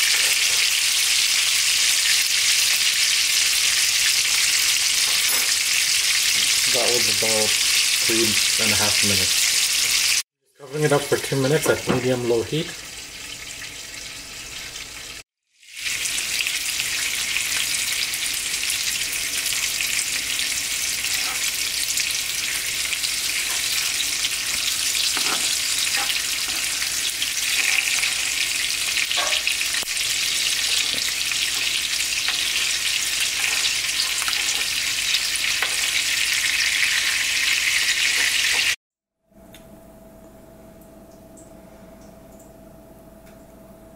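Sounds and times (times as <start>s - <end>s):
meat sizzling in a frying pan: 0.0s - 10.2s, 12.3s - 38.8s.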